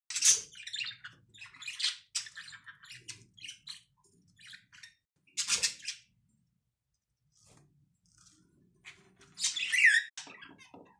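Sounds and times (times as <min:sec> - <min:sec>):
budgerigars chirping and squawking: 0:00.1 - 0:06.3, 0:08.1 - 0:10.9.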